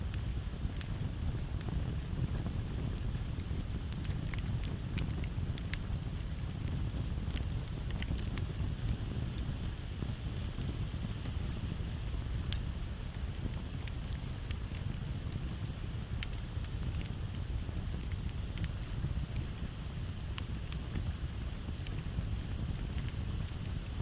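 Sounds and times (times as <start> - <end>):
campfire crackling and popping: 0.0 - 24.0
low rumble of flames and breeze: 0.0 - 24.0
crickets chirring: 0.1 - 24.0.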